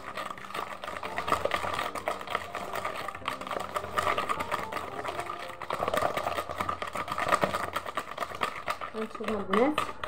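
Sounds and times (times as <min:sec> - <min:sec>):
whisk beating in plastic bowl: 0:00.0 - 0:10.0.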